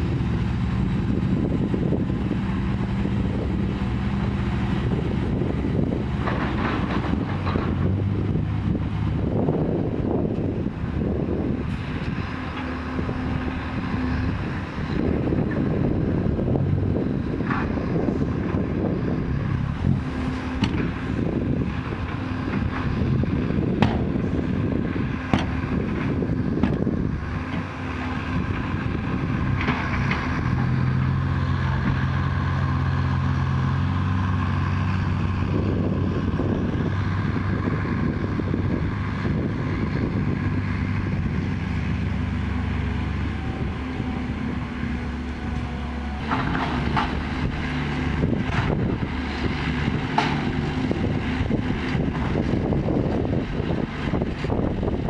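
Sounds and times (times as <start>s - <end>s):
dump truck diesel engine: 0.0s - 55.0s.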